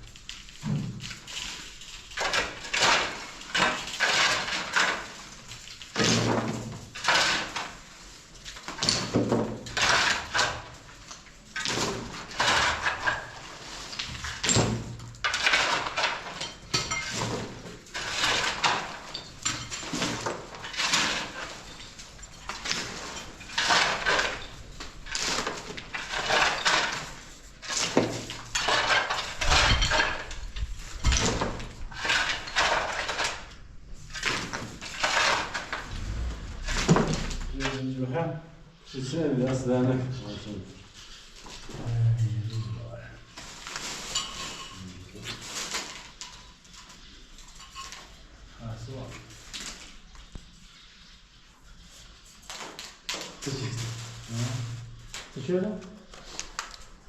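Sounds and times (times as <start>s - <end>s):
clattering knocks and scrapes: 0.0s - 57.0s.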